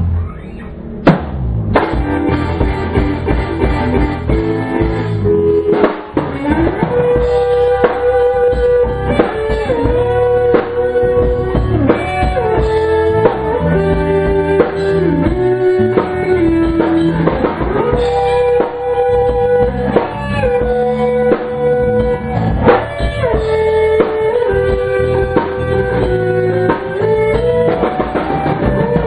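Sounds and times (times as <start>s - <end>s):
lead guitar sliding notes: 0.0s - 29.0s
rock band jamming: 0.0s - 29.0s
drum hits: 1.0s - 29.0s.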